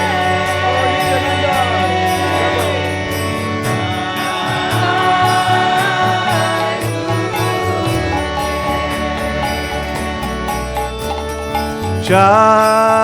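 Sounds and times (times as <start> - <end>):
chanted singing: 0.0 - 13.0
steady percussion: 0.0 - 13.0
sustained instrumental tones: 0.0 - 13.0.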